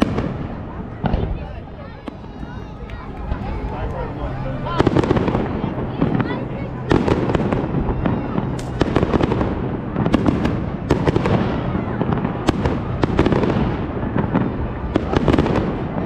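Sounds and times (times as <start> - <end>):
continuous noisy wash: 0.0 - 16.0
fireworks bangs: 0.0 - 16.0.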